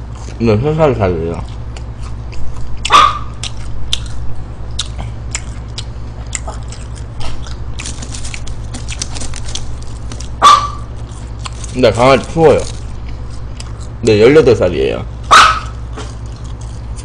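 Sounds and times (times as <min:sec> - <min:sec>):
steady low hum: 0:00.0 - 0:17.0
chewing with wet mouth clicks: 0:00.1 - 0:00.4, 0:01.3 - 0:14.1, 0:15.6 - 0:17.0.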